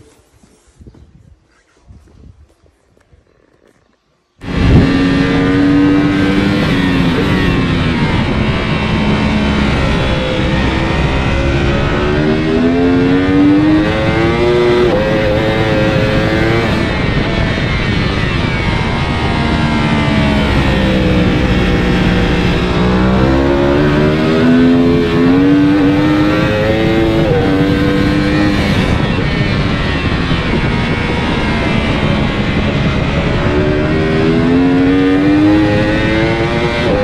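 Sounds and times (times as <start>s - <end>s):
motorcycle engine at high revs: 4.4s - 37.0s
wind rushing: 4.4s - 37.0s.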